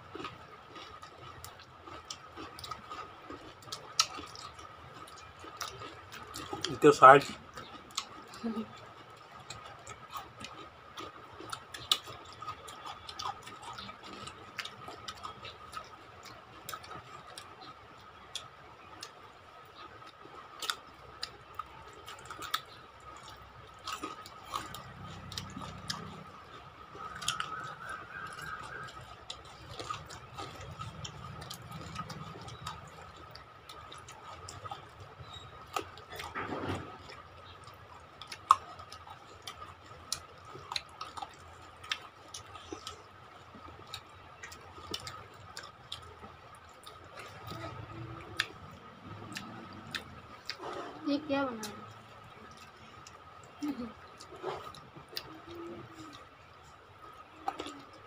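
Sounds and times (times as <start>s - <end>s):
wet chewing and lip smacks: 0.0s - 58.0s.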